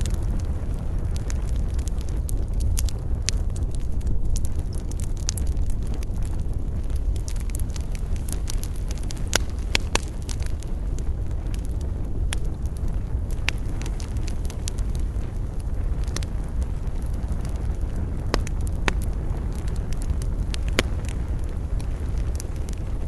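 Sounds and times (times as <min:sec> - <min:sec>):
campfire crackling and popping: 0:00.0 - 0:23.0
low rumble of flame: 0:00.0 - 0:23.0.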